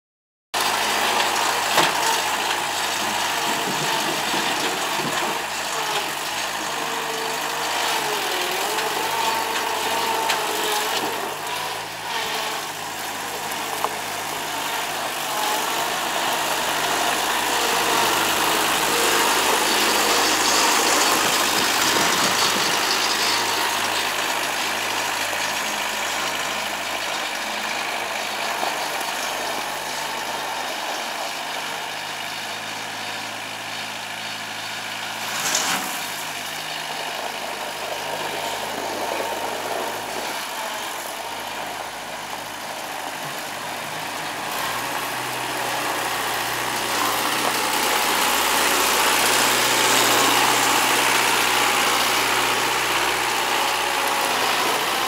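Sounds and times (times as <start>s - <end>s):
loader engine running: 0.6s - 55.0s.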